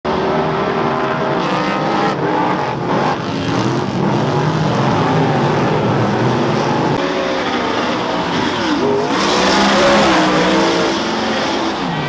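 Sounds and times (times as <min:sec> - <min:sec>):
race car engines accelerating: 0:00.1 - 0:12.0.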